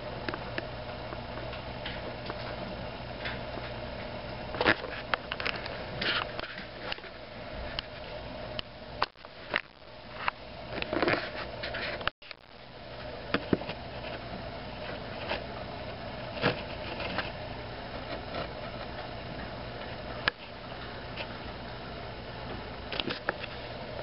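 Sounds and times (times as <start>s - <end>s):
low hum and hiss: 0.0s - 24.0s.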